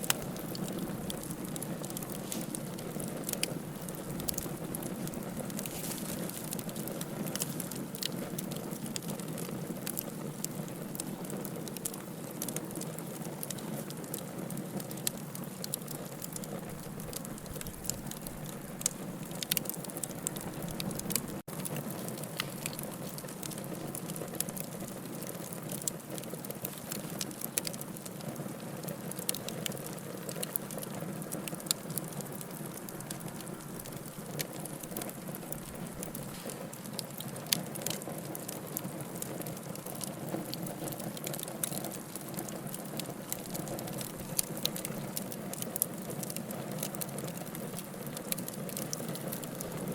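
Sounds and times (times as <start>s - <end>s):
burning logs hissing: 0.0s - 49.9s
fire crackling and popping: 0.0s - 49.9s.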